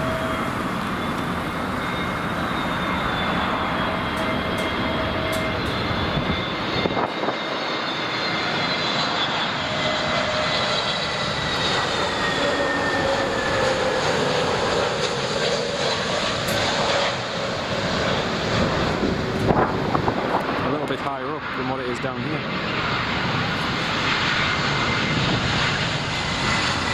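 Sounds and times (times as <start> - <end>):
jet airliner engines roaring: 0.0 - 26.9.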